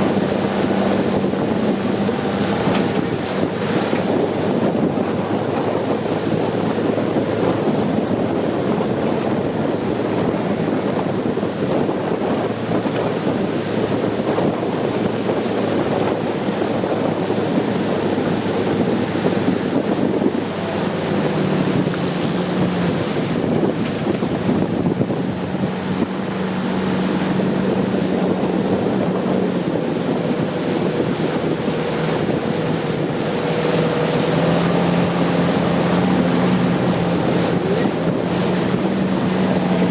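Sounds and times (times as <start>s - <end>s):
boat engine running: 0.0s - 39.9s
water rushing along hull: 0.0s - 39.9s
wind buffeting microphone: 0.0s - 39.9s.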